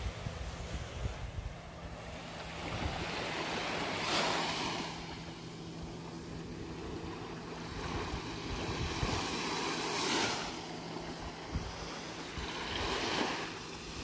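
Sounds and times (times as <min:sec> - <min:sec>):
small waves lapping on sand: 0:00.0 - 0:14.0
surf washing: 0:00.0 - 0:14.0.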